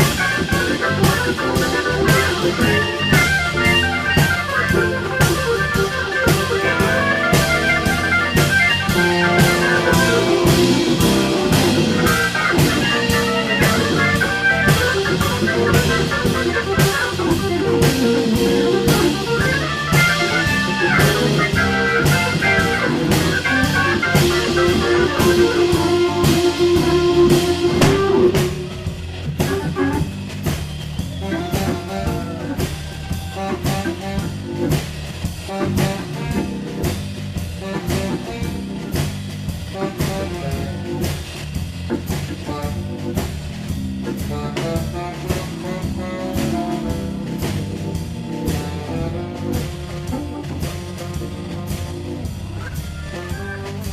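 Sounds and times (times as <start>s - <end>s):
blues band playing: 0.0s - 53.9s
drum kit: 0.0s - 53.9s
guitar: 0.0s - 53.9s
organ: 0.0s - 53.9s.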